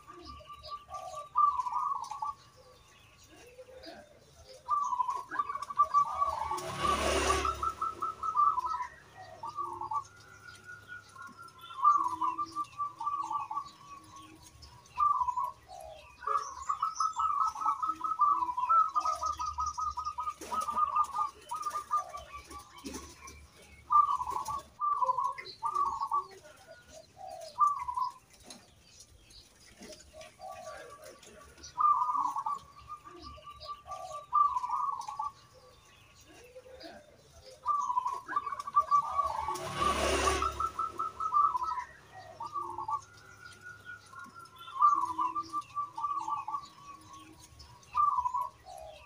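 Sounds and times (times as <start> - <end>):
dove cooing and trilling: 0.0 - 49.0.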